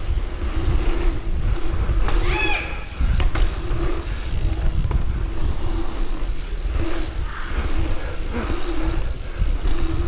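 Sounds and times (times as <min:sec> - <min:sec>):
bike tyres rumbling: 0:00.0 - 0:10.0
hum: 0:00.0 - 0:10.0
wind on microphone: 0:00.0 - 0:10.0.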